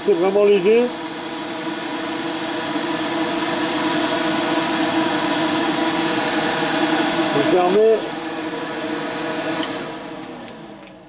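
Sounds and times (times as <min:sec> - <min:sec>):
extractor fan air whoosh: 0:00.0 - 0:10.8
fan motor hum: 0:00.0 - 0:11.0.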